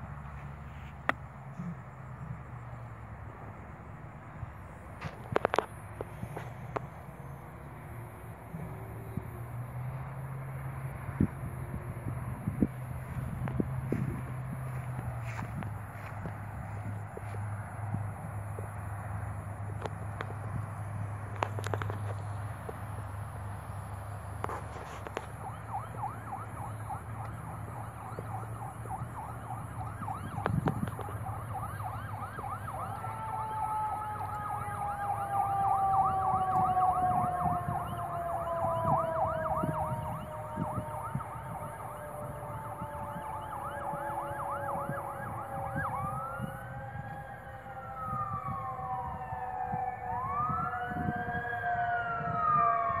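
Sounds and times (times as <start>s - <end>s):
emergency vehicle siren: 0.0s - 53.0s.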